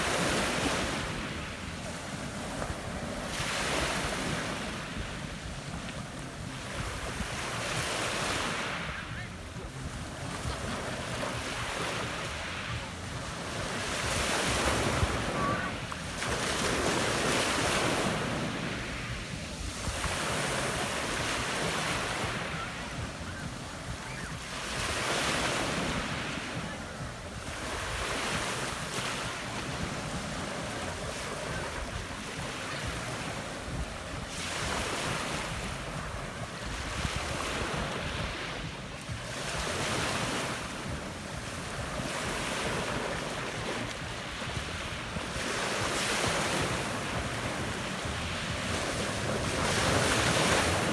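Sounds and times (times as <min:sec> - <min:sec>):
wind rumble on microphone: 0:00.0 - 0:50.9.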